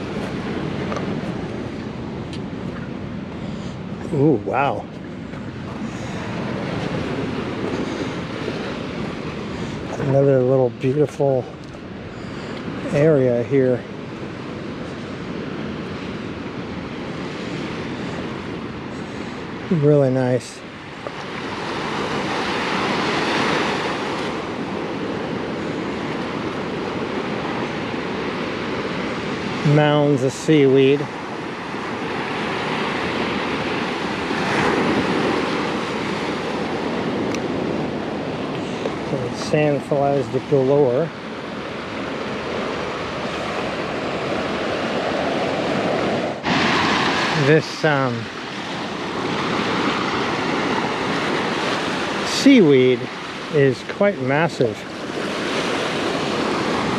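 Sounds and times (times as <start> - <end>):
ocean surf washing on beach: 0.0 - 56.9.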